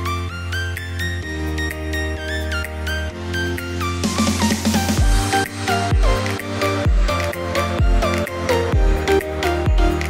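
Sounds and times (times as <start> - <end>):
sliding melody: 0.0 - 10.0
deep bass: 1.3 - 10.0.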